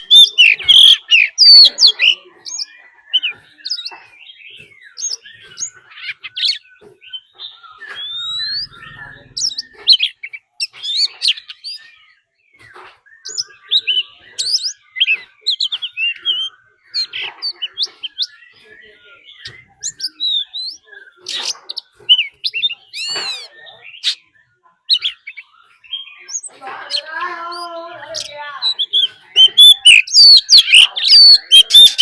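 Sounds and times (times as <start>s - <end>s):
bird singing whistled notes: 0.0s - 32.0s.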